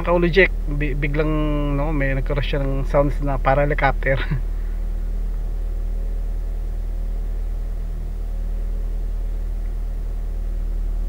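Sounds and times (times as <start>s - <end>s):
car engine idling: 0.0s - 11.0s
fast fluttering noise under car: 0.0s - 11.0s.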